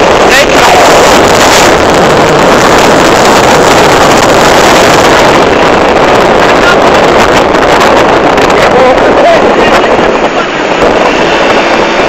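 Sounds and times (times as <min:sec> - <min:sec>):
motorcycle engine: 0:00.0 - 0:12.0
road noise: 0:00.0 - 0:12.0
wind buffeting microphone: 0:00.0 - 0:12.0.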